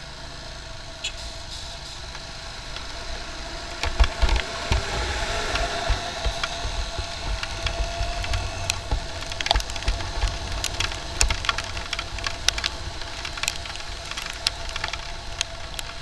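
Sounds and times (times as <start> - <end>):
raindrops hitting microphone: 1.6 - 16.0
wind rumble on microphone: 2.6 - 16.0.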